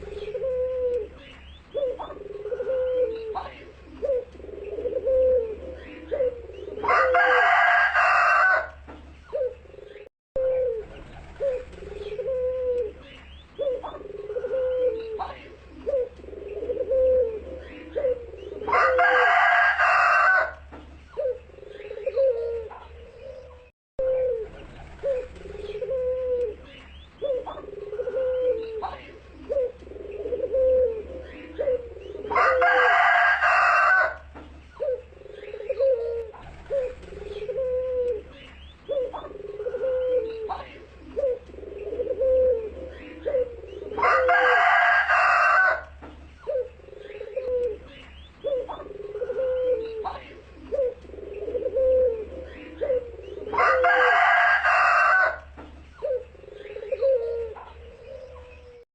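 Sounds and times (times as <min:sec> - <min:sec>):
dove cooing: 0:00.0 - 0:58.8.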